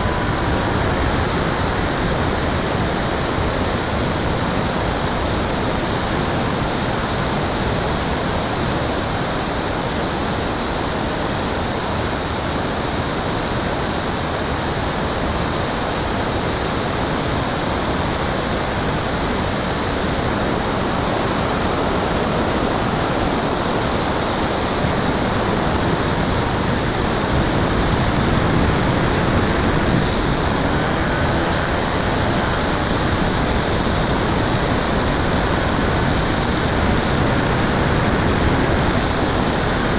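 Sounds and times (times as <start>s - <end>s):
high motor whine: 0.0s - 39.9s
model plane propeller noise: 0.0s - 39.9s.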